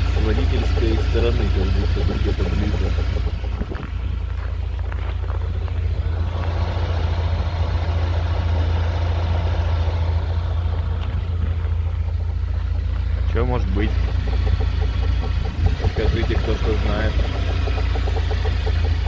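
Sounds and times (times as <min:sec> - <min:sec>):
engine knocking: 0:00.0 - 0:19.0
engine low rumble: 0:00.0 - 0:19.0.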